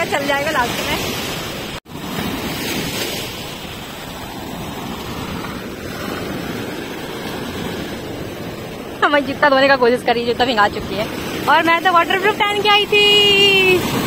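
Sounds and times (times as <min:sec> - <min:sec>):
surf breaking on sand: 0:00.0 - 0:14.0.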